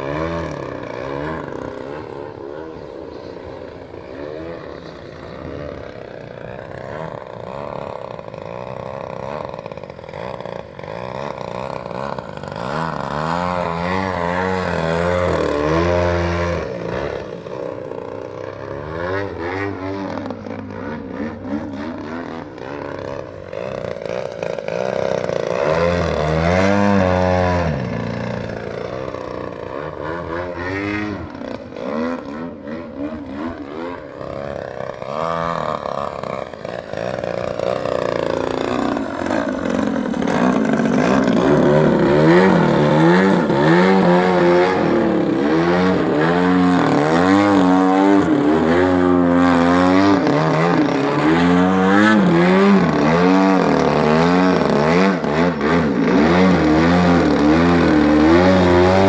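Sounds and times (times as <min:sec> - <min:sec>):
model plane engine revving: 0:00.0 - 0:59.0.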